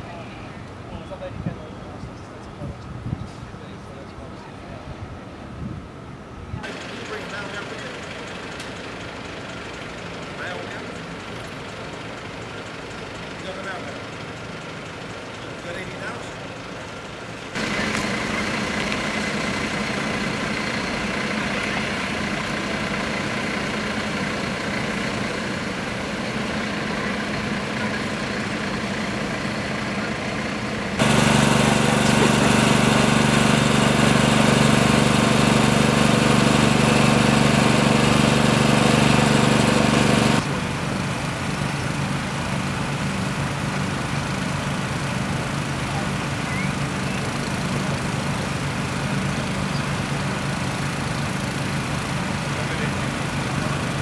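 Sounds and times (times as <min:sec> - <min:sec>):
engine idling with low hum: 0:00.0 - 0:54.0
loud engine with strong low hum: 0:06.5 - 0:54.0.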